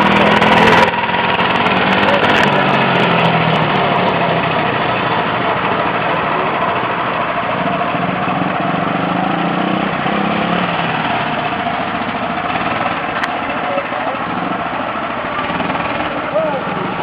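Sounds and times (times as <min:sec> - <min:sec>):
go-kart engine running: 0:00.0 - 0:17.0.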